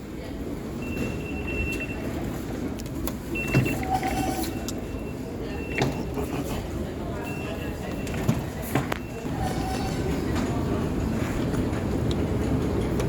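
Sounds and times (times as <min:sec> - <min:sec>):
low rumble of crowd and machinery: 0:00.0 - 0:13.0.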